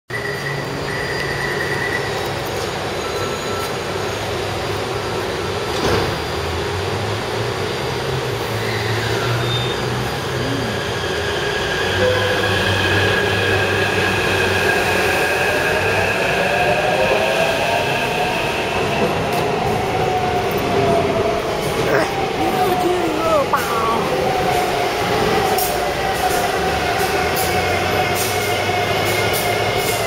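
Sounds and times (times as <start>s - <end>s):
train running noise: 0.1s - 30.0s.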